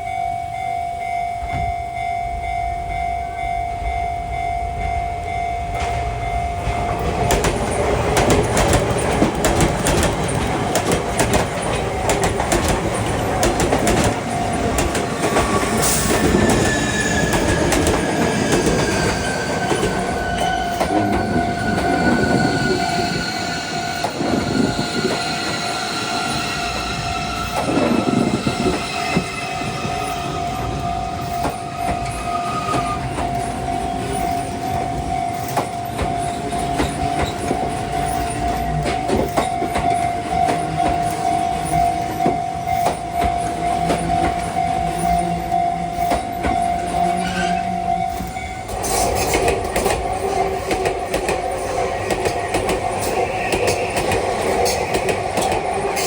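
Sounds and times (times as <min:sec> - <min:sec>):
level-crossing alarm ringing: 0:00.0 - 0:56.0
train wheels clicking over rail joints: 0:05.7 - 0:56.0
train motors whining: 0:05.8 - 0:56.0.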